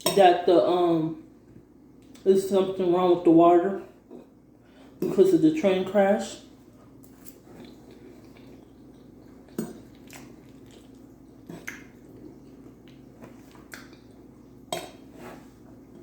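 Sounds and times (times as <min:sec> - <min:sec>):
soft eating sounds: 0:00.8 - 0:02.5, 0:03.7 - 0:16.0.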